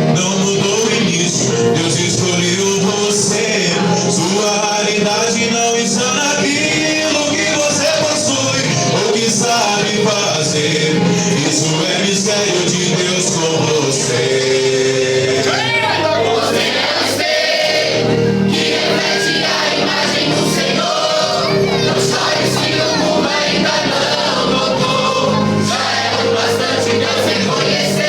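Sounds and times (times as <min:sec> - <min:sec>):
gospel band playing: 0:00.0 - 0:28.0
people singing: 0:00.0 - 0:28.0.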